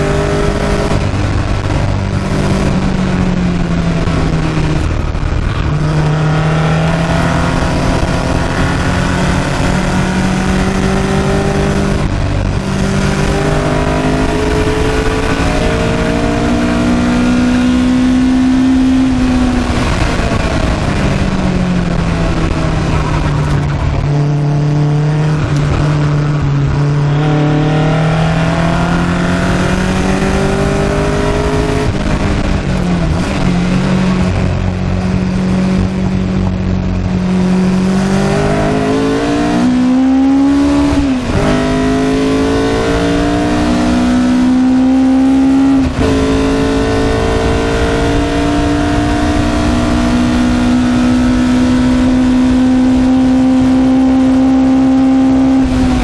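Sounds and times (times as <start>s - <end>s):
car engine driven hard: 0.0s - 56.0s.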